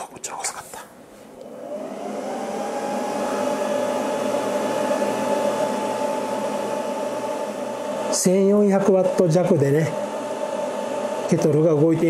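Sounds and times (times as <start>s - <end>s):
cooling fans whooshing hum: 0.0s - 12.0s.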